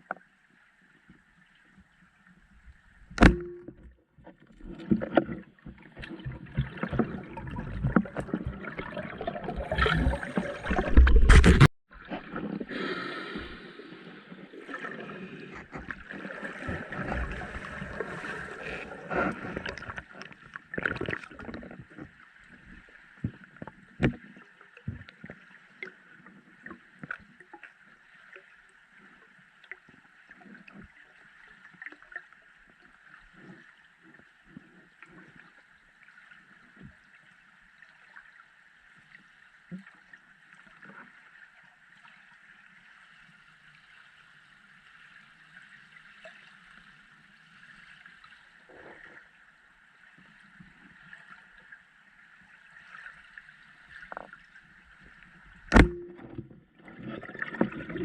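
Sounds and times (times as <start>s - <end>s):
water sloshing and splashing: 0.0s - 58.0s.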